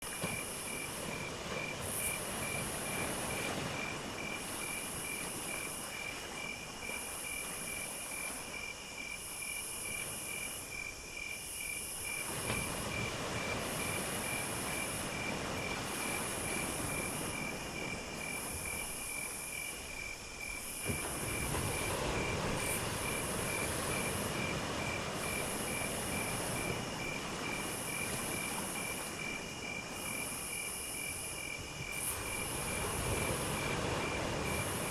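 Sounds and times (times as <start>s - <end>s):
cricket chirping: 0.0s - 34.9s.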